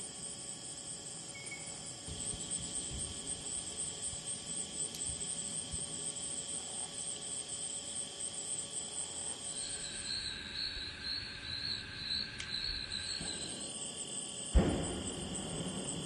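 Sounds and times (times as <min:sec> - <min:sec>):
crickets trilling: 0:00.0 - 0:16.0
pulsing insect song: 0:00.0 - 0:16.0.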